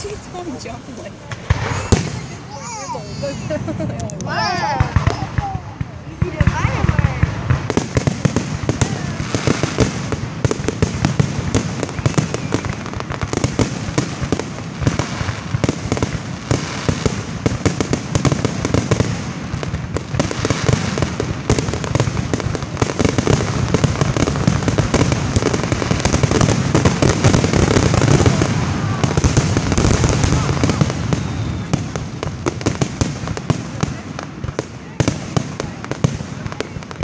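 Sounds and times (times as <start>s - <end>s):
fireworks bangs and crackle: 0.0s - 37.0s.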